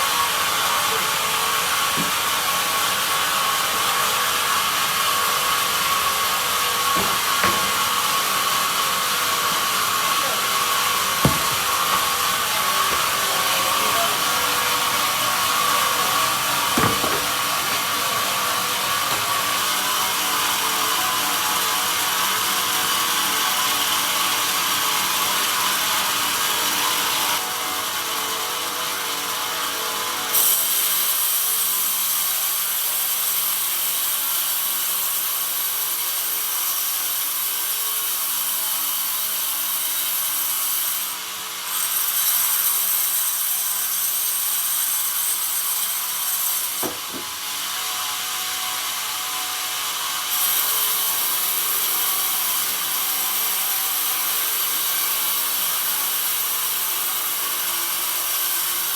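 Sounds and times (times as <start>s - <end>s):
band saw cutting wood: 0.0s - 58.9s.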